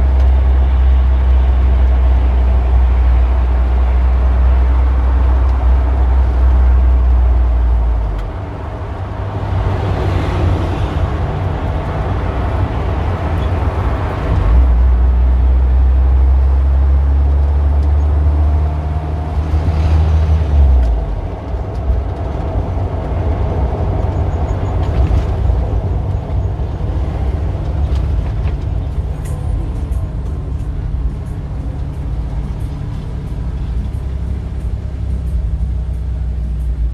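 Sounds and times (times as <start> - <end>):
cars passing: 0.0 - 36.9
deep engine hum: 0.0 - 36.9.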